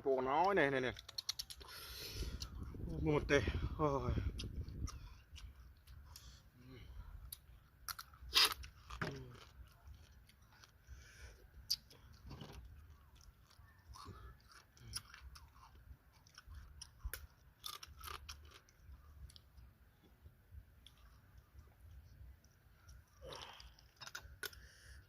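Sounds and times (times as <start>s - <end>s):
person chewing food: 0.9s - 3.0s, 4.2s - 25.0s.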